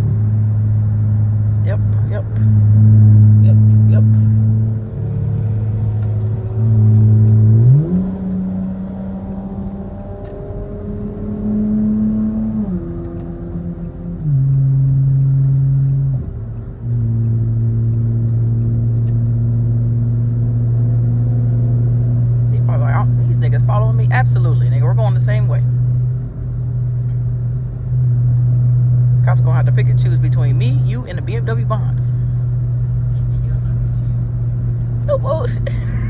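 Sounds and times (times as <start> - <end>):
car engine and exhaust drone: 0.0 - 36.0.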